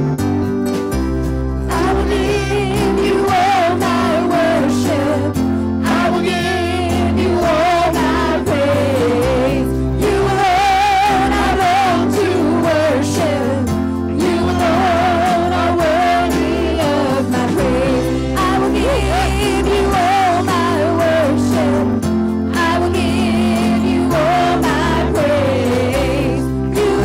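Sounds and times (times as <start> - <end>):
guitar and bass chords: 0.0 - 27.0
person singing with vibrato: 1.7 - 27.0.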